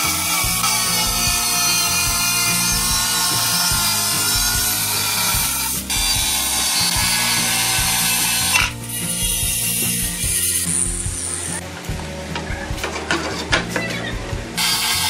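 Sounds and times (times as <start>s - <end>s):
angle grinder cutting tile: 0.0s - 11.7s, 14.6s - 15.0s.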